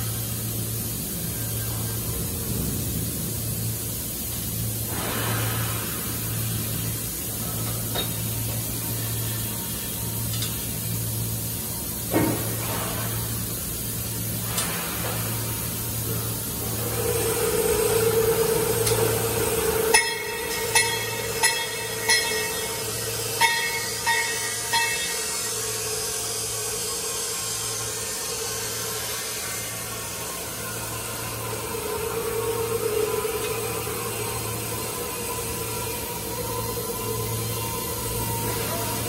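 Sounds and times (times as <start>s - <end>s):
machinery pulsing low hum: 0.0s - 39.0s
steady higher hum: 0.0s - 39.0s.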